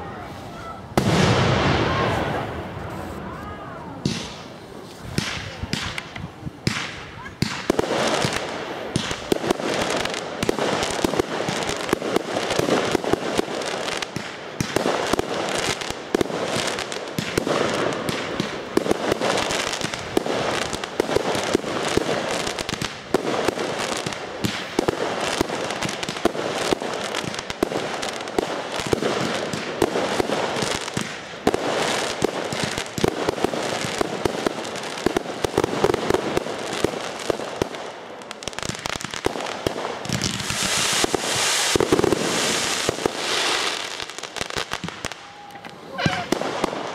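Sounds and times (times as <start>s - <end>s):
fireworks banging: 0.9s - 3.3s, 3.9s - 46.9s.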